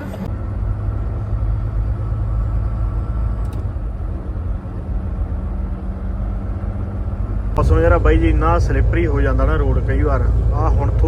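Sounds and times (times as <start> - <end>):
road noise: 0.0 - 11.0
truck diesel engine running: 0.0 - 11.0.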